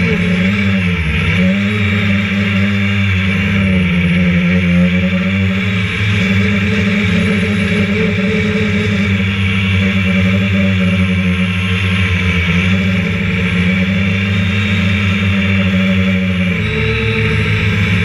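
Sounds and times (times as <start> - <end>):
drone propellers buzzing whine: 0.0 - 18.0.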